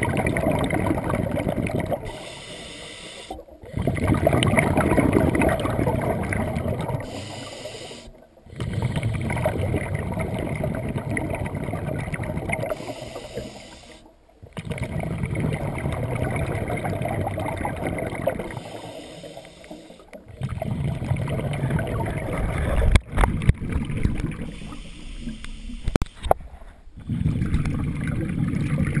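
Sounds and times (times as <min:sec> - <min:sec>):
diver exhaling bubbles: 0:00.0 - 0:02.3, 0:03.3 - 0:29.0.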